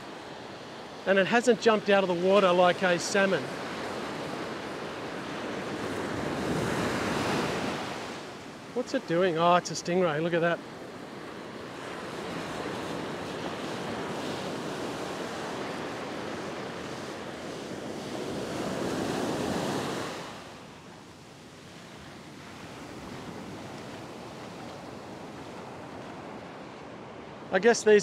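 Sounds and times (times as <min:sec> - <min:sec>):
ocean surf breaking on beach: 0:00.0 - 0:28.0.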